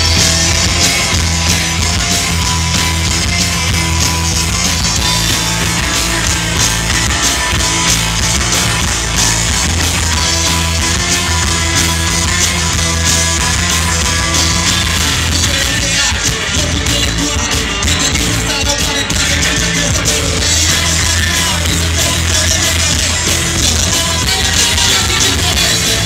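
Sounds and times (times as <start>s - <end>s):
drum kit with cymbals: 0.0s - 26.0s
electric bass: 0.0s - 26.0s
electric guitars: 0.0s - 26.0s.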